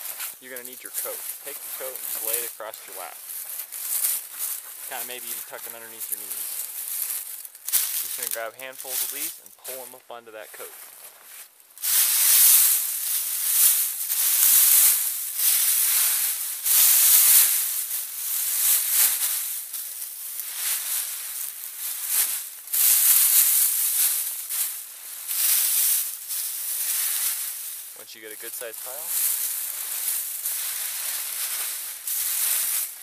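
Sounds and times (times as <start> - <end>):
dry leaves rustling and crunching: 0.0 - 33.0.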